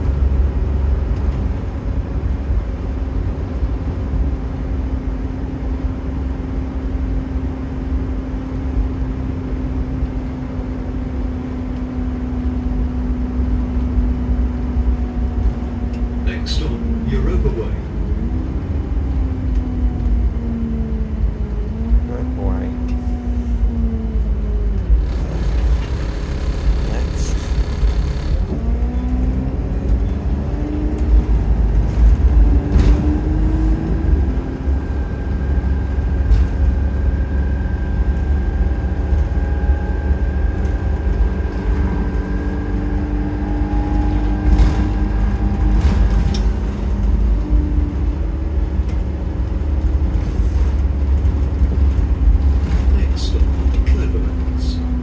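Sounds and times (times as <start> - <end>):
bus engine: 0.0 - 55.0
low road rumble: 0.0 - 55.0
steady high whine: 0.0 - 55.0.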